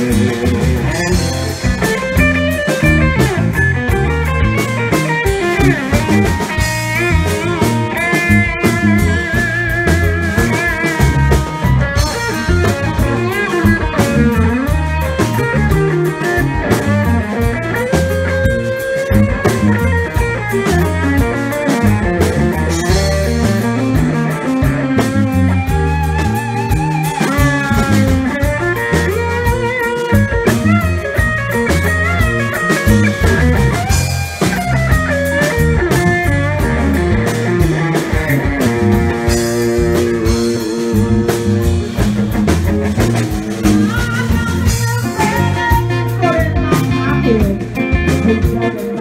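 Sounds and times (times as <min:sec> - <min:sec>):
electric guitar solo: 0:00.0 - 0:49.0
live band music: 0:00.0 - 0:49.0.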